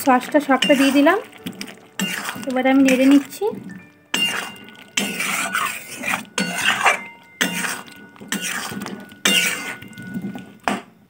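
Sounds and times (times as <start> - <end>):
spoon scraping metal pan: 0.4 - 10.6.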